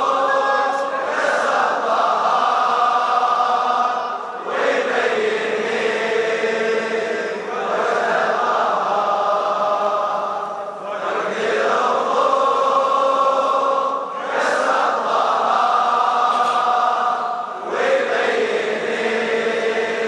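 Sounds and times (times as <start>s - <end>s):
crowd of men chanting in unison: 0.0s - 20.0s.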